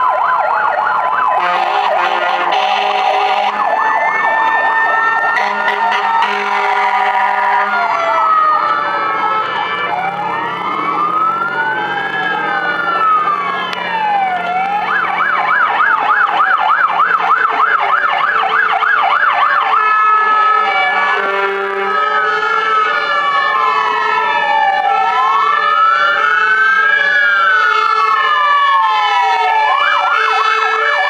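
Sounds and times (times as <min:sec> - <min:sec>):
fire engine sirens wailing and yelping: 0:00.0 - 0:31.0.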